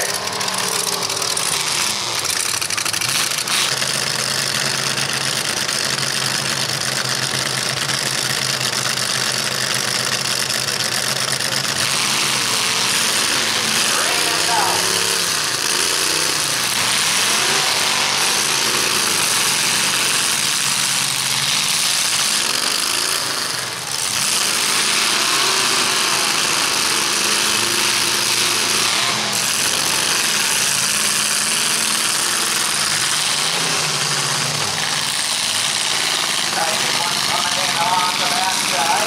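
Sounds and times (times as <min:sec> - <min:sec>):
truck engines revving loudly: 0:00.0 - 0:39.0.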